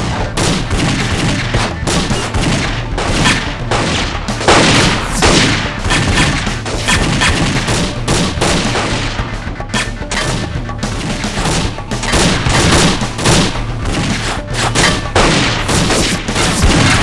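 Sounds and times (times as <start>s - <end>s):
rapid handgun shots: 0.0s - 17.0s.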